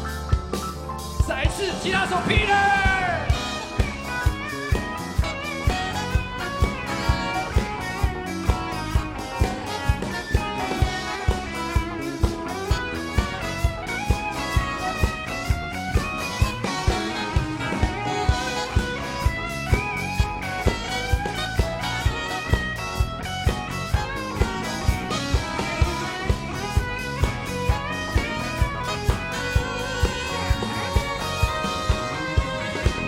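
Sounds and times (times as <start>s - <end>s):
steady drum beat: 0.0s - 33.0s
guitar solo: 1.2s - 33.0s.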